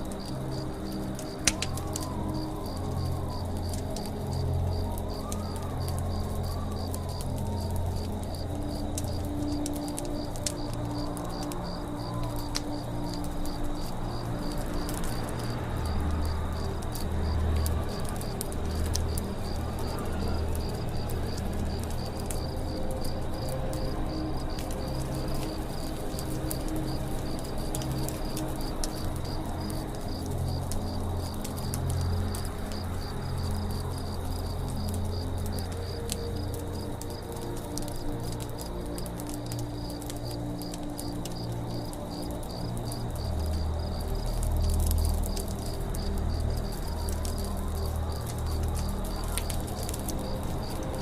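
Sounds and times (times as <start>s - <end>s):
campfire crackling and popping: 0.0s - 51.0s
flames rumbling: 0.0s - 51.0s.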